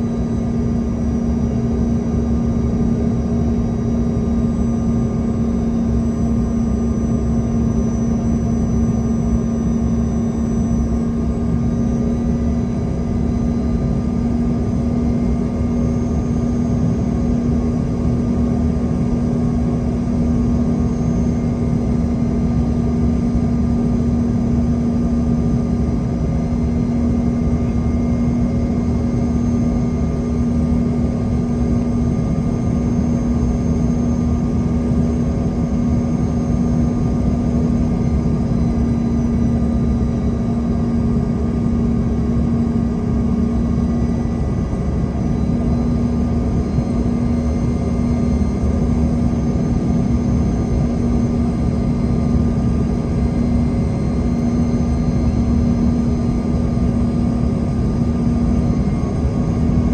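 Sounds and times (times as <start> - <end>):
faint jet engine whines: 0.0 - 59.9.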